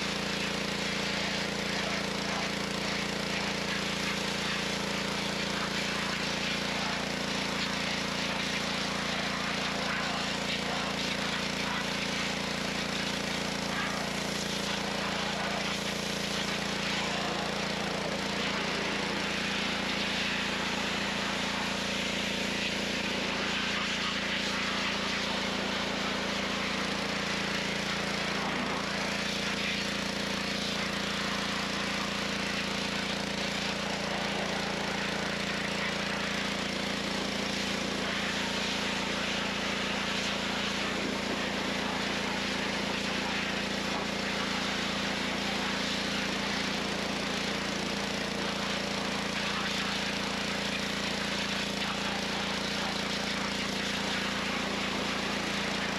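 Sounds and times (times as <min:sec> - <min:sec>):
pressure washer motor humming: 0:00.0 - 0:55.9
water jet hissing: 0:00.0 - 0:55.9.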